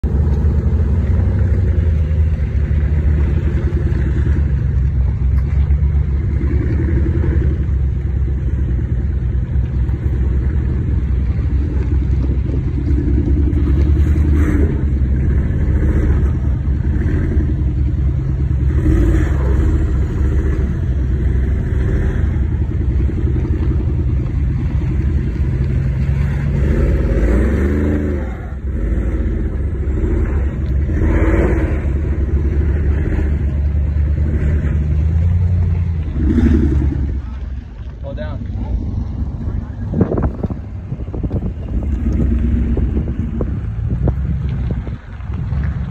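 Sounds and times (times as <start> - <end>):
engine revving under load: 0.0 - 45.9.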